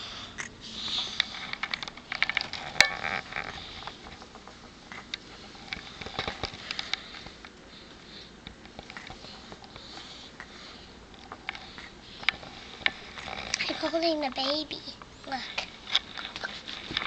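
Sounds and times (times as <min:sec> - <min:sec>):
small clicks and rustles: 0:00.9 - 0:17.0.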